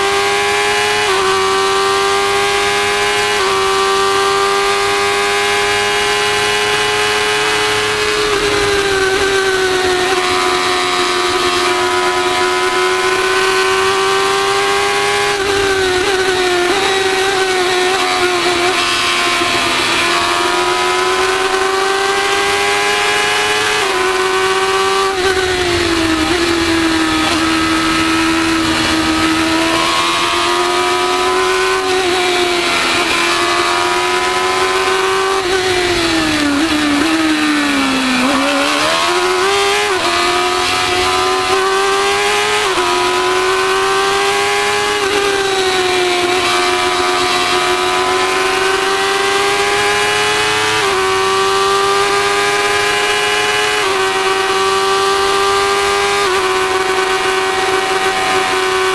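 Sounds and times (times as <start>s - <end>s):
race car engine at high revs: 0.0s - 58.9s.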